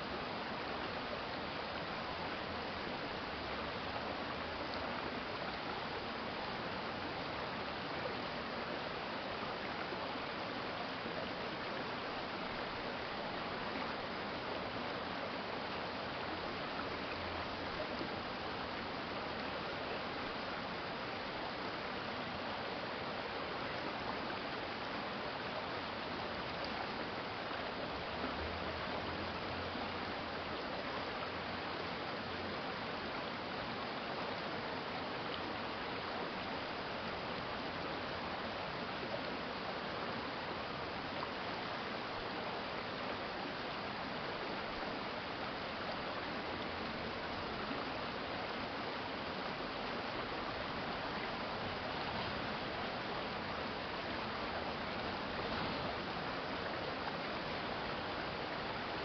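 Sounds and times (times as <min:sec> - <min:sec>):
faint low hum: 0:00.0 - 0:59.0
stream water flowing: 0:00.0 - 0:59.0.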